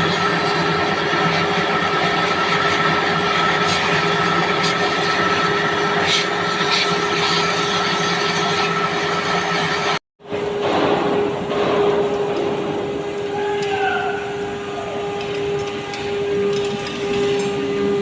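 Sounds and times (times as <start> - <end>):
constant machine whine: 0.0 - 18.0
industrial machinery noise: 0.0 - 18.0.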